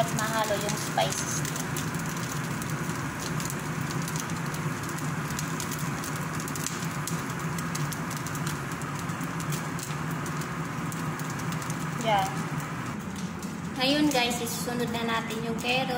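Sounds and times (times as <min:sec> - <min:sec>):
chicken sizzling in a pan: 0:00.0 - 0:12.9
steady low hum: 0:00.0 - 0:15.9.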